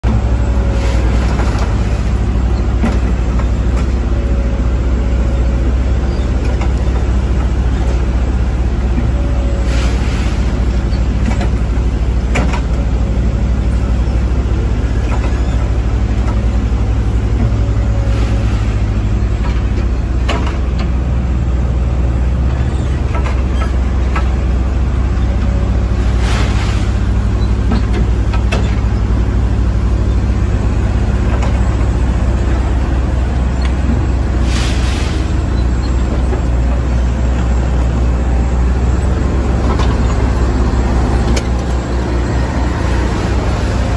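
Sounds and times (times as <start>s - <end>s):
heavy machine engine rumbling: 0.0s - 43.9s.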